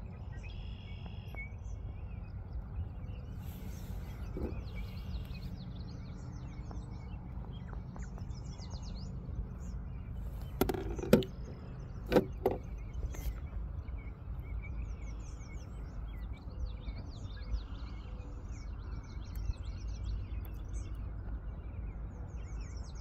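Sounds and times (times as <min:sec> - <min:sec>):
birds chirping and calling: 0:00.0 - 0:21.0
steady low rumble: 0:00.0 - 0:23.0.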